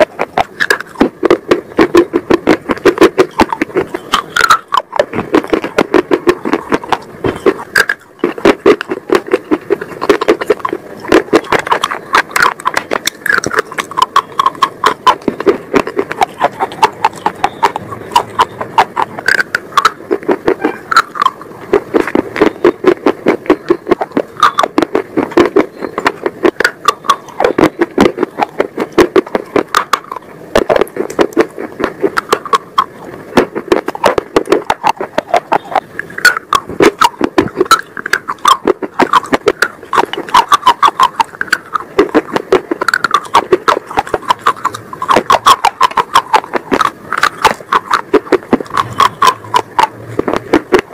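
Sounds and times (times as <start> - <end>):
crunching brittle sticks: 0.0 - 50.9.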